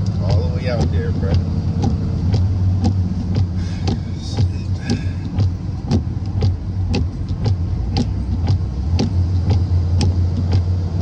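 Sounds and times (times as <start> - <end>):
sharp repeating tick: 0.0 - 10.8
truck engine and road rumble: 0.0 - 11.0.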